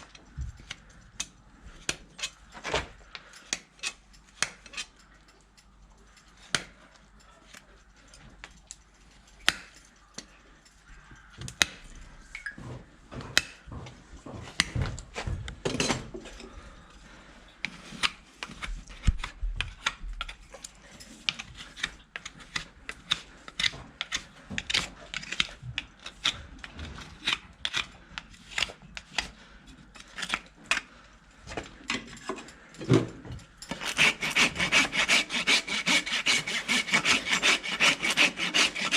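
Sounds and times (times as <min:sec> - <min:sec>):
tools scraping horse hoof: 0:00.0 - 0:12.2, 0:17.5 - 0:30.9, 0:31.5 - 0:38.9.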